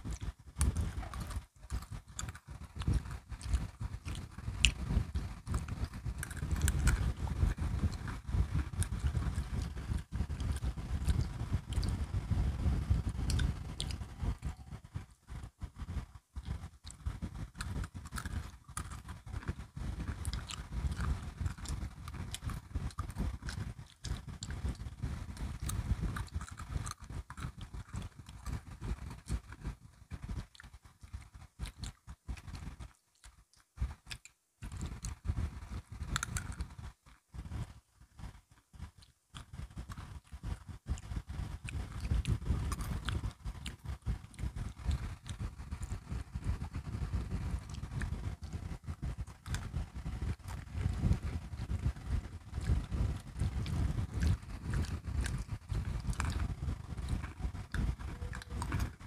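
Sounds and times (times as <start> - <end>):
crunching biscuit sticks: 0.1 - 12.0, 16.4 - 37.2, 38.2 - 46.6, 52.6 - 59.0.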